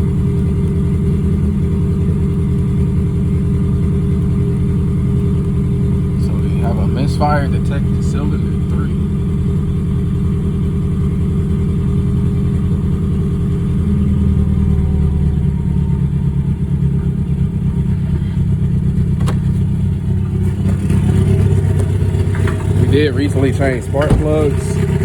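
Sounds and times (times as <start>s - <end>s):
car engine idling with misfire: 0.0s - 25.0s.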